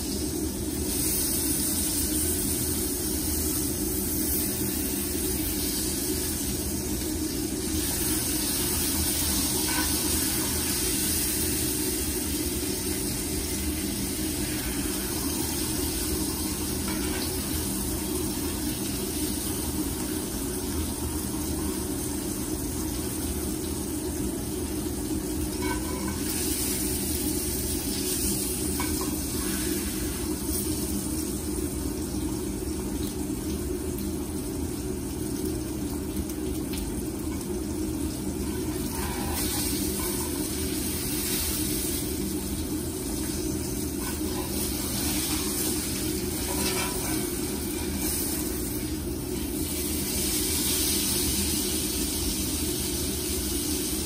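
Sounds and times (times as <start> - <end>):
constant low hum: 0.0 - 54.0
steak sizzling in a skillet: 0.0 - 54.0.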